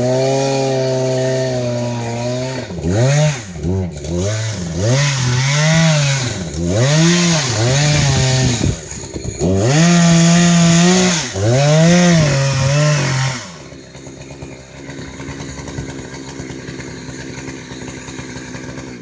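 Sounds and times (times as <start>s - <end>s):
chainsaw engine revving and idling: 0.0s - 19.0s.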